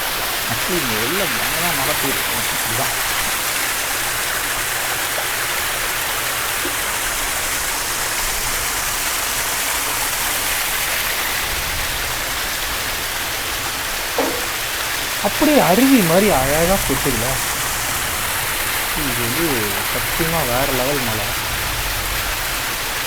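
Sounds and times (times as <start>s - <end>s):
rainwater rushing down stairs: 0.0s - 23.0s.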